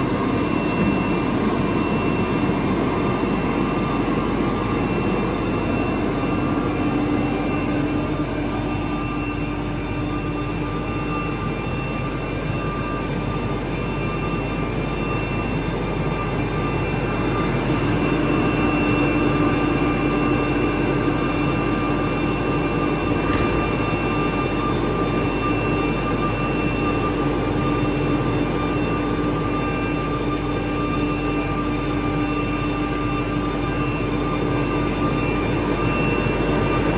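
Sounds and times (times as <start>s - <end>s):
low machine hum: 0.0s - 36.9s.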